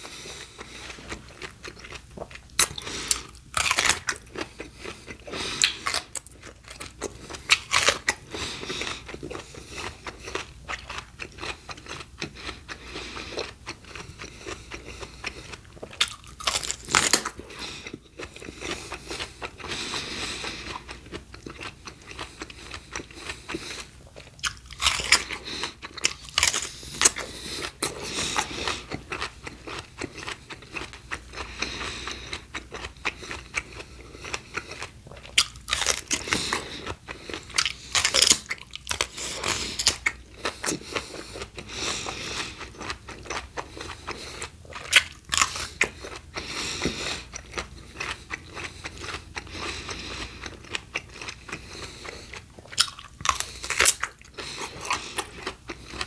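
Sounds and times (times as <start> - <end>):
crunchy biting and chewing: 0.0 - 56.0.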